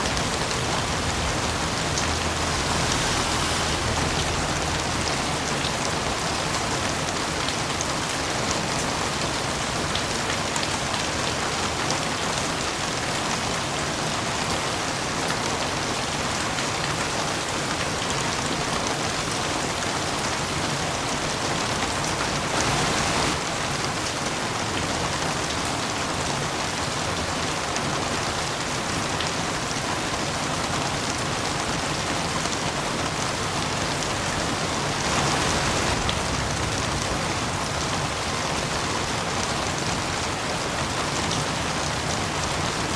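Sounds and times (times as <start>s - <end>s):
heavy rain on a roof: 0.0s - 42.9s.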